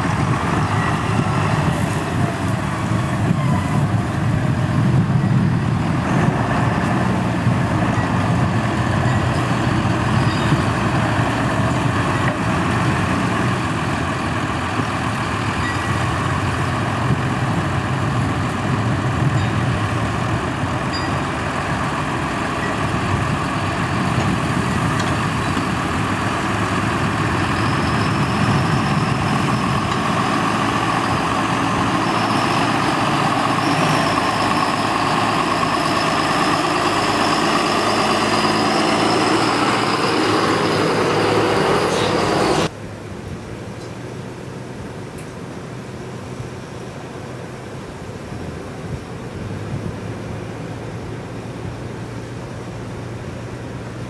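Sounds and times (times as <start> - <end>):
tractor diesel engines under load: 0.0 - 54.0.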